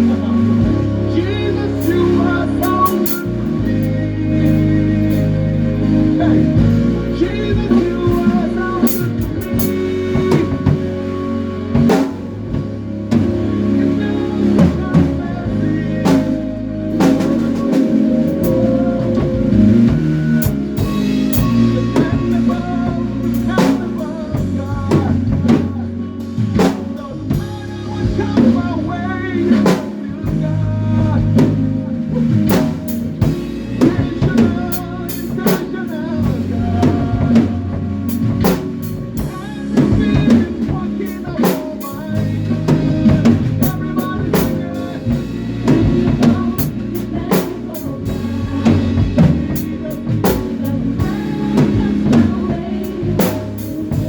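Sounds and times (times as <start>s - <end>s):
bass guitar notes: 0.0s - 54.0s
live band playing: 0.0s - 54.0s
drum kit hits: 6.5s - 13.6s, 14.6s - 28.8s, 29.5s - 54.0s.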